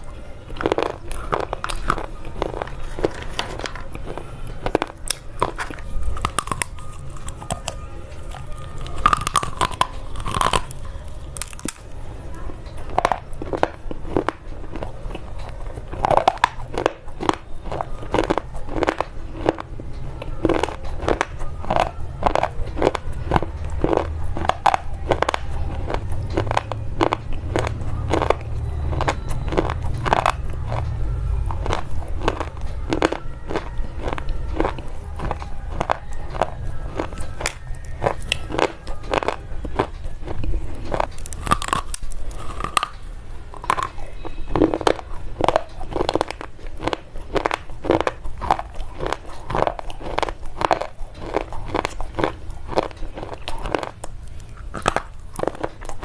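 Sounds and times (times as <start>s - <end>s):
chewing brittle crunches: 0.0s - 56.0s.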